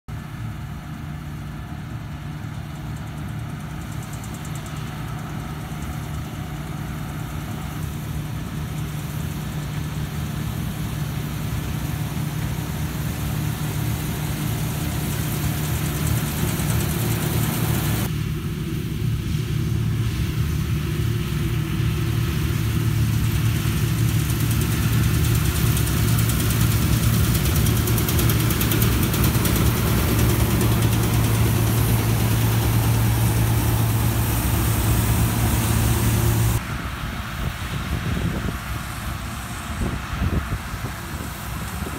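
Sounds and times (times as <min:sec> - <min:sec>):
combine harvester running: 0:00.1 - 0:41.9.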